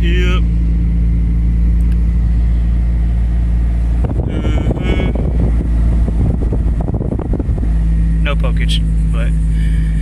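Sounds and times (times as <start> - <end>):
car engine droning: 0.0 - 10.0.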